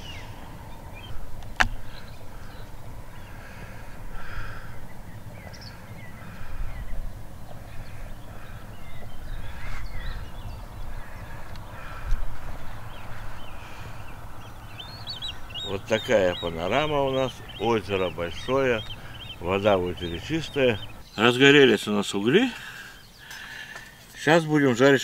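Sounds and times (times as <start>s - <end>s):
low steady rumble: 0.0s - 21.1s
birds calling: 0.0s - 25.0s.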